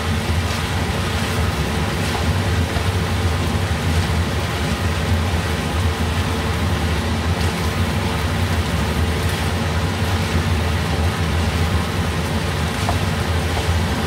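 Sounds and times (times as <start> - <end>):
food sizzling in a frying pan: 0.0 - 14.0
steady low hum: 0.0 - 14.0
wooden spatula stirring: 0.0 - 14.0.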